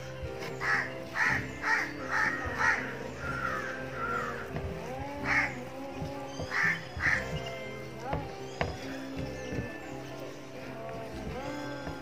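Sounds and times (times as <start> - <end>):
bird calling: 0.0 - 10.4.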